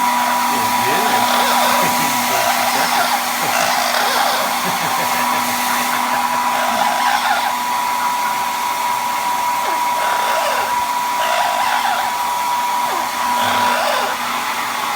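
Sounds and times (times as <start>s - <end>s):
hair dryer blowing: 0.0s - 14.9s.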